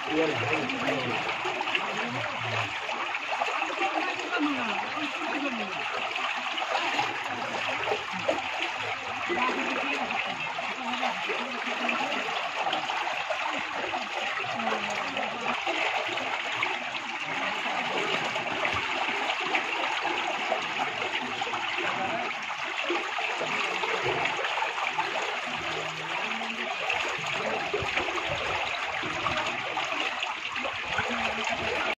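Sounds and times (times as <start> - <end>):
flood water rushing: 0.0 - 32.0.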